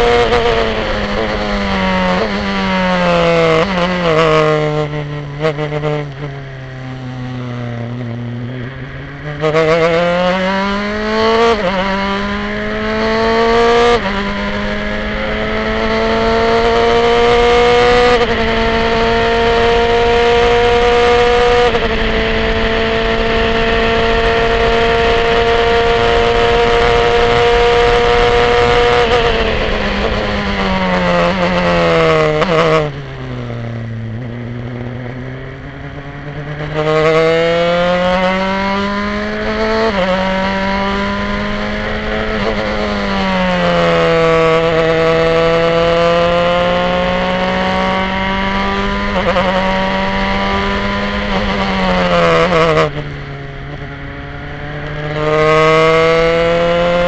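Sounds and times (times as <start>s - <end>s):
racing engine revving and shifting: 0.0s - 57.0s.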